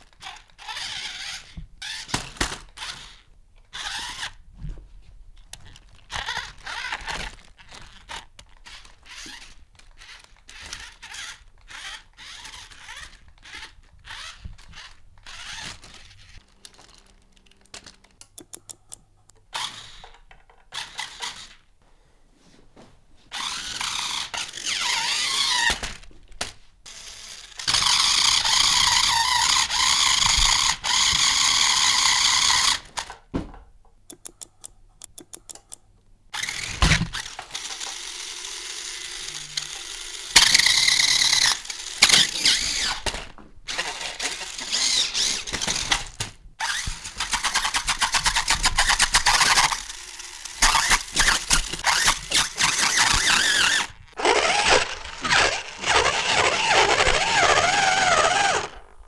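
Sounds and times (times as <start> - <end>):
toy motors and gears whirring: 0.0 - 4.4, 5.4 - 21.7, 23.3 - 33.2, 34.1 - 59.0.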